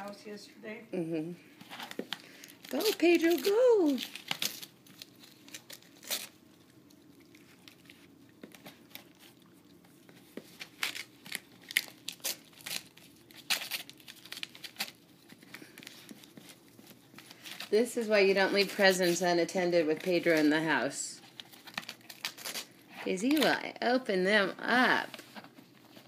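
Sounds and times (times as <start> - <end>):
wrapping paper tearing: 1.7 - 9.4, 10.5 - 23.6.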